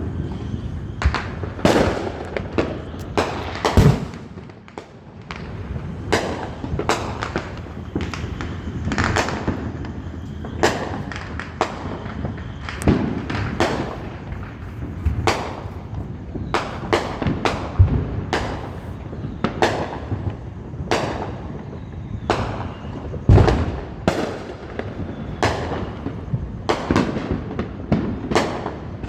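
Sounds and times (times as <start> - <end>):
fireworks bangs and booms: 0.0 - 29.0.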